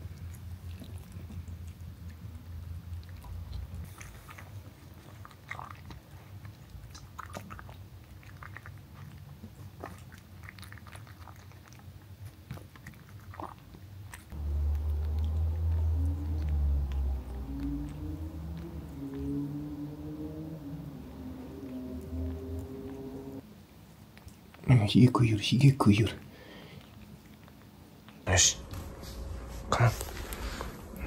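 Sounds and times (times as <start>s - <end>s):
cat chewing kibble: 0.0s - 19.7s, 21.7s - 24.8s, 25.9s - 29.4s.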